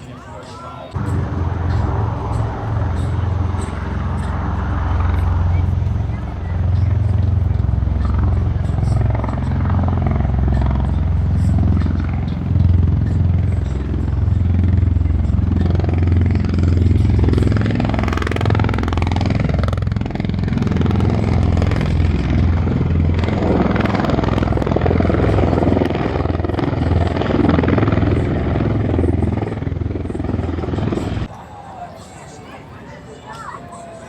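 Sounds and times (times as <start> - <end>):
aircraft flying past: 0.9 - 31.3.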